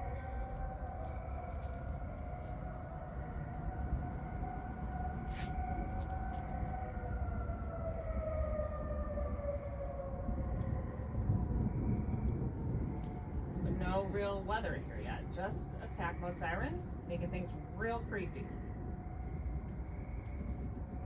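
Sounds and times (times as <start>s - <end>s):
low rumble: 0.0s - 21.0s
warning sirens drifting in pitch: 0.0s - 21.0s.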